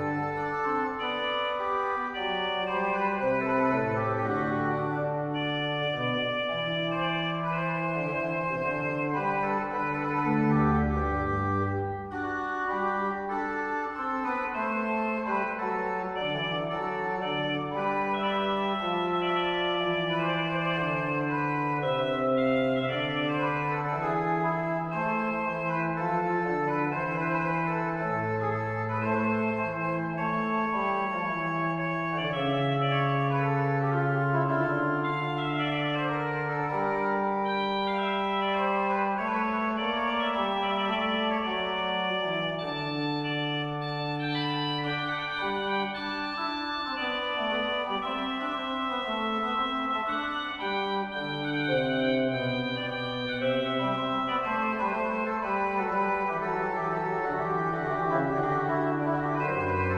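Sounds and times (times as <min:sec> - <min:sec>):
pipe organ duet: 0:00.0 - 0:59.9.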